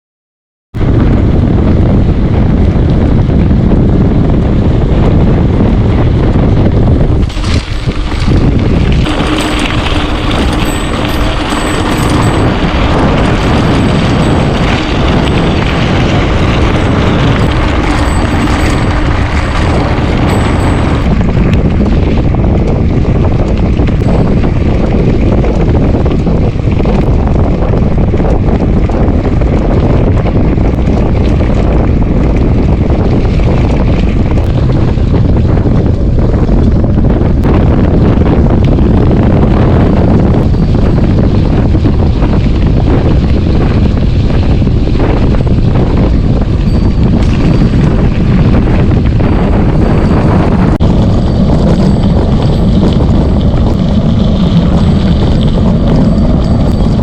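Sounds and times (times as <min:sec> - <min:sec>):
wind buffeting microphone: 0:00.7 - 0:57.0.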